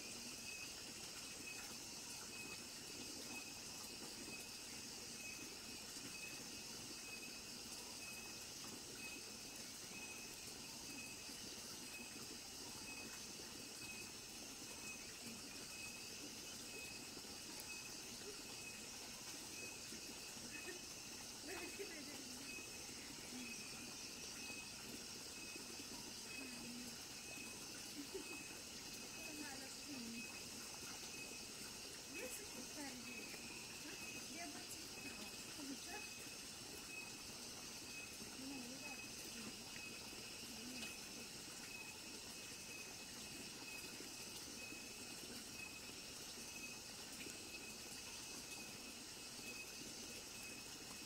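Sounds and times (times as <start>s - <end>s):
crickets and insects chirping: 0.0s - 51.0s
thin high insect trill: 0.0s - 51.0s.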